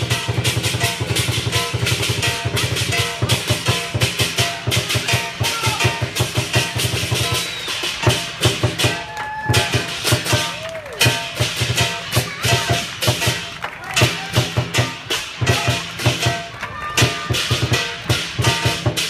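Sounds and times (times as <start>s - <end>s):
crashing cymbals: 0.0s - 19.0s
fast drum beat: 0.0s - 19.0s.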